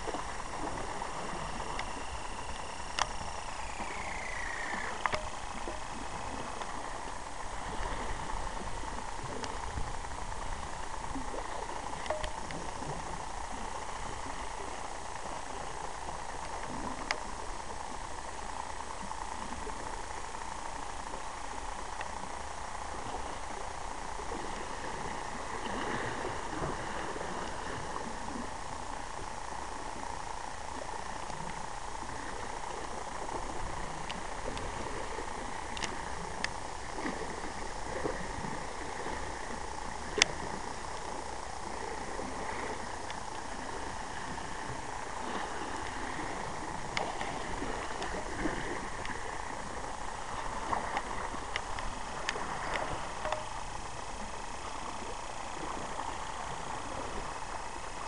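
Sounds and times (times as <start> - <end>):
wind on microphone: 0.0 - 17.4, 21.6 - 30.2, 30.8 - 58.0
waves lapping on rocks: 0.0 - 18.2, 21.8 - 58.0.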